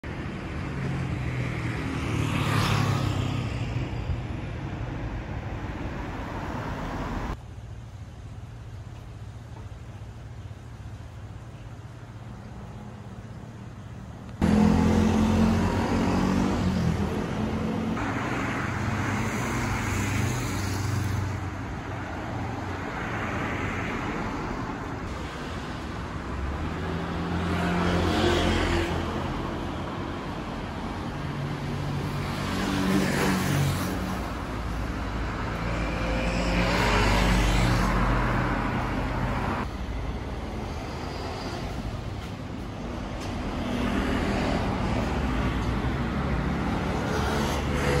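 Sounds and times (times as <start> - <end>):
cars passing: 0.0 - 7.4, 13.8 - 48.0.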